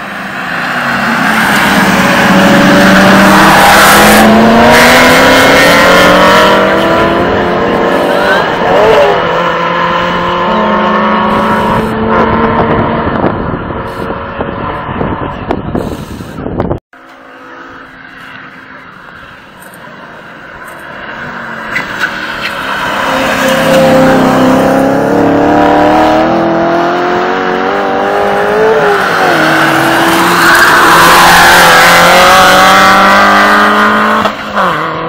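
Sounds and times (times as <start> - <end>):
car engines accelerating: 0.0 - 35.0.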